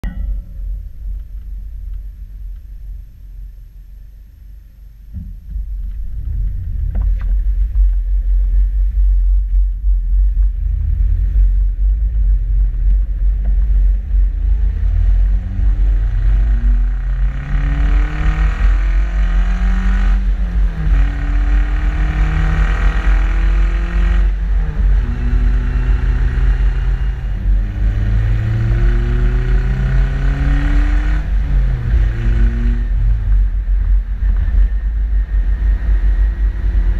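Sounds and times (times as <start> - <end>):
car exhaust accelerating through gears: 0.0 - 36.9.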